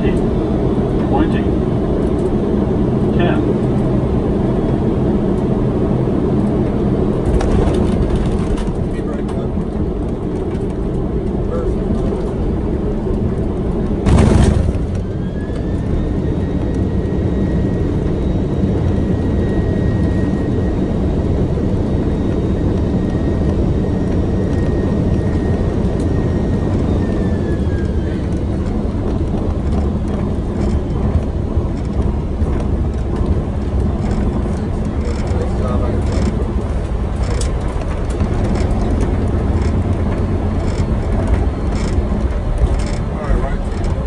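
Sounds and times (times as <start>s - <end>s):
high jet engine whine: 0.0s - 44.0s
steady aircraft rumble: 0.0s - 44.0s.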